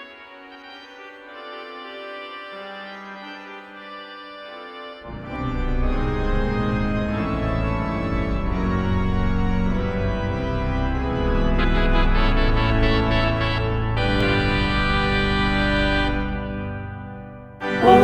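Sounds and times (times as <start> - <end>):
organ music: 0.0 - 18.0.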